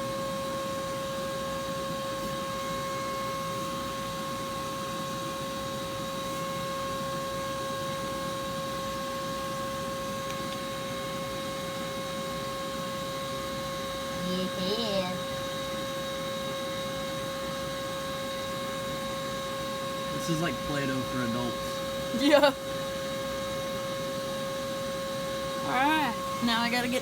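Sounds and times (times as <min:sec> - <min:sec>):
vacuum cleaner motor running: 0:00.0 - 0:27.0.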